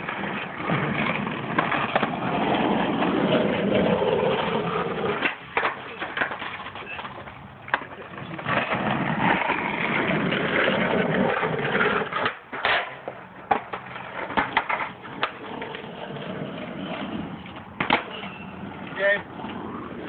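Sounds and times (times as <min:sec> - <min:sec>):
skateboard wheels rolling on asphalt: 0:00.0 - 0:20.0
skateboards clacking on ground: 0:00.0 - 0:20.0.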